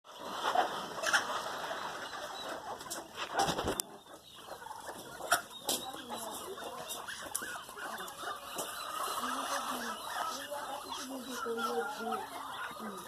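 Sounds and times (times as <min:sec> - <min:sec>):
chickens clucking: 0:00.1 - 0:13.0.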